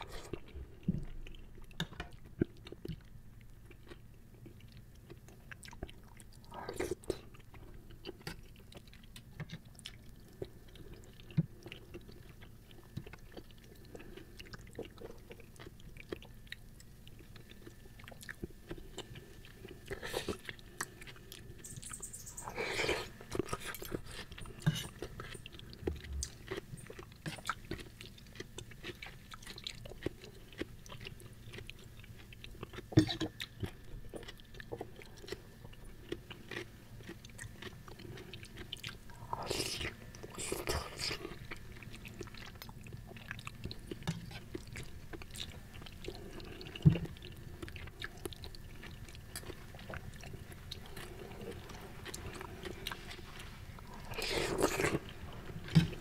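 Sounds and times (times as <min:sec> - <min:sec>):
wet chewing with smacks: 0:00.0 - 0:56.0.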